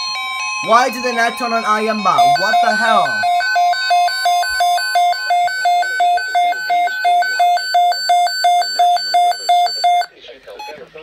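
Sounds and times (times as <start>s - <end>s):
alternating alarm beeps: 0.0s - 10.8s
steady alert tone: 0.6s - 10.0s.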